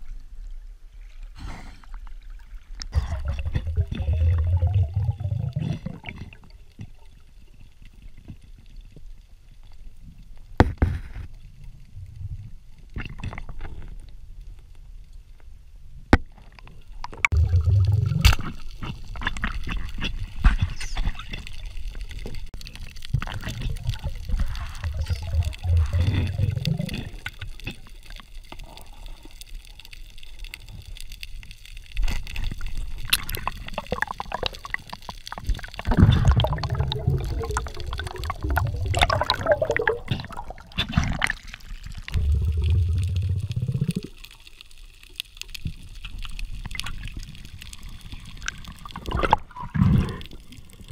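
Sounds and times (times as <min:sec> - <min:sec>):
water sloshing and gurgling: 0:00.0 - 0:14.1, 0:16.2 - 0:50.9.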